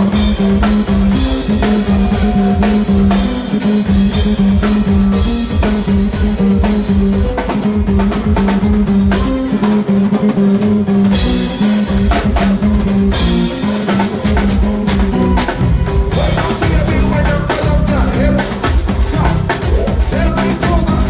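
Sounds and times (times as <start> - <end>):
bass line: 0.0 - 21.0
drum kit: 0.0 - 21.0
live band playing: 0.0 - 21.0.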